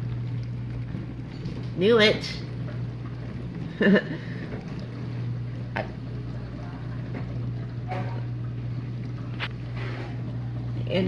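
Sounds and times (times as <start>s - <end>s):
dishwasher drain pump humming: 0.0s - 11.0s.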